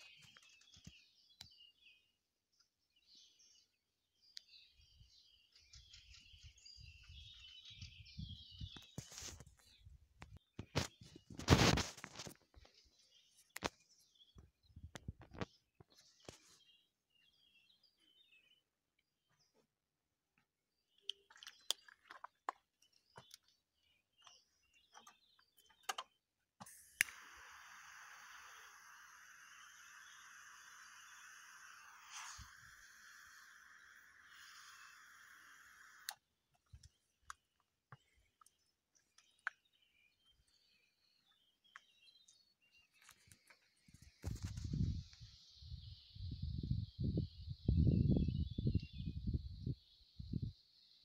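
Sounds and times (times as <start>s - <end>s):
faint bird chirps: 0.0s - 19.7s, 20.8s - 51.0s.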